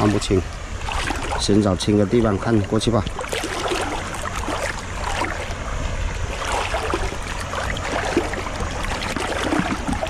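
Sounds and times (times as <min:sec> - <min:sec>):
footsteps wading through water: 0:00.0 - 0:01.7, 0:02.3 - 0:10.0
wind on microphone: 0:00.0 - 0:10.0.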